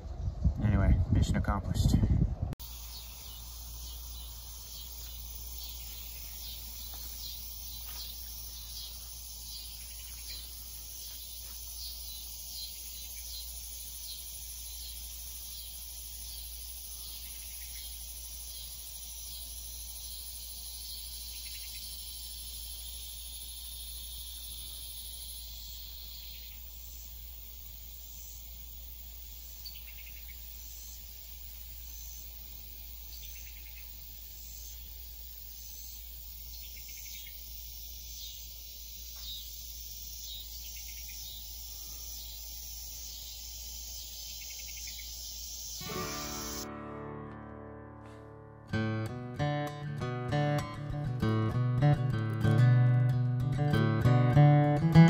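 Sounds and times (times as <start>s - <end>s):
cricket chirps: 2.6s - 46.8s
insects chirring: 2.6s - 46.8s, 48.8s - 55.0s
high insect trill: 2.6s - 47.2s.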